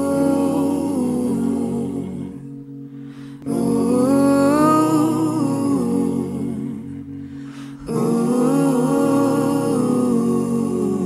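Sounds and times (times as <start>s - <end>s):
sustained chords: 0.0s - 11.0s.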